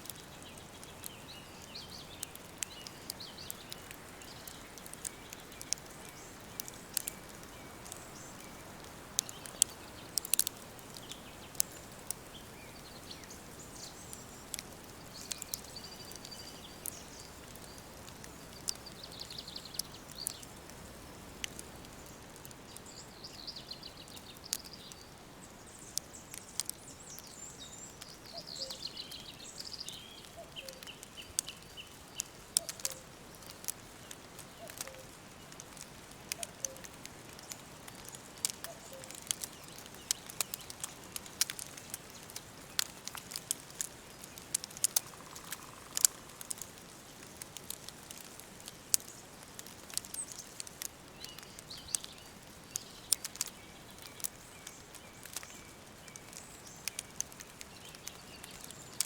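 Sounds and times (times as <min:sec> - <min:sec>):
songbirds chirping: 0:00.0 - 0:59.0
wood fire crackling: 0:00.0 - 0:59.0.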